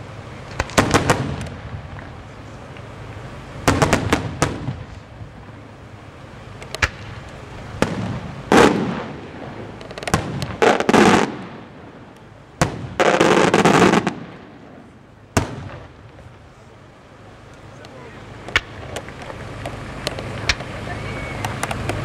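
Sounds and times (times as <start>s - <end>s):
continuous rush of noise: 0.0s - 22.0s
firework shells bursting: 0.4s - 5.7s, 6.5s - 16.6s, 17.4s - 22.0s.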